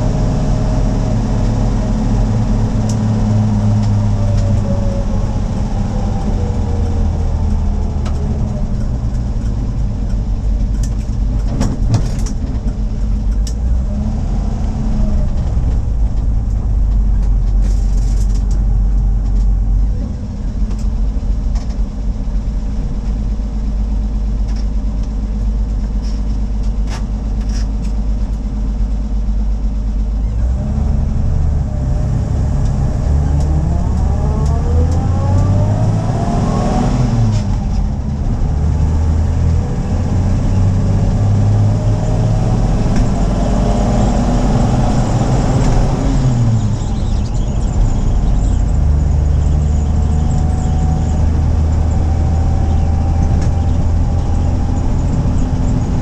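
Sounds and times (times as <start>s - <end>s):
car engine idling and accelerating: 0.0s - 56.0s.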